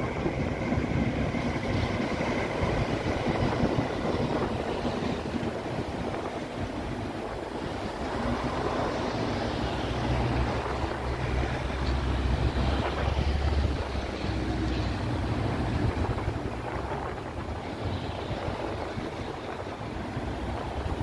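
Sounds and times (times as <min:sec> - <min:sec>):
road traffic passing: 0:00.0 - 0:21.0
wind buffeting microphone: 0:00.0 - 0:21.0.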